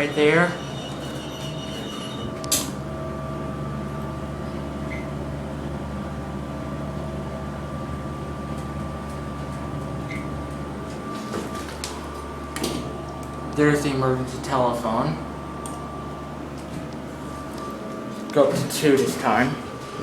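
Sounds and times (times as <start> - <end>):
elevator mechanical hum: 0.0 - 20.0.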